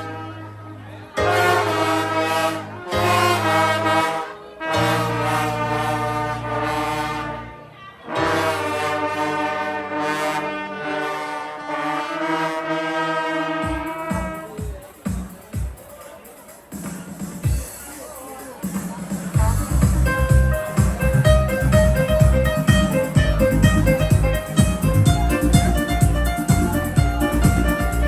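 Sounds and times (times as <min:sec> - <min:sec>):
low brass bass notes: 0:00.0 - 0:14.6, 0:19.4 - 0:28.0
brass band playing held chords: 0:00.0 - 0:16.0, 0:16.7 - 0:28.0.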